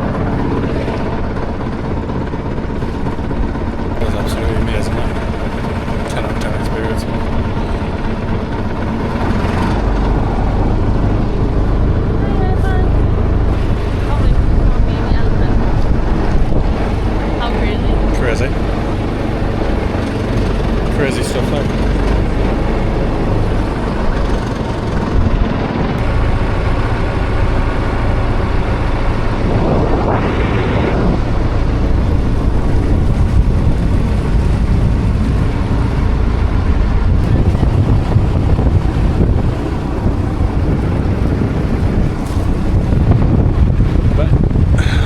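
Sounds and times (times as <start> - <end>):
motorboat engine running: 0.0 - 45.0
wind buffeting microphone: 0.0 - 45.0.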